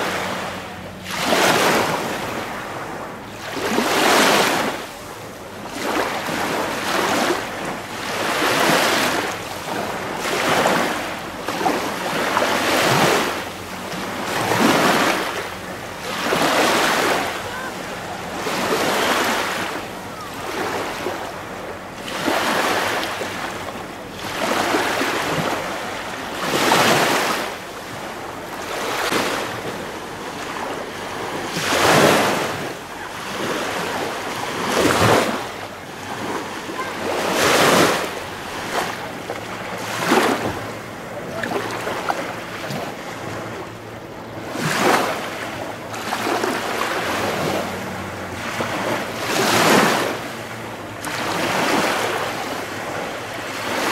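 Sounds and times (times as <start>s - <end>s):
small waves washing ashore: 0.0s - 53.9s.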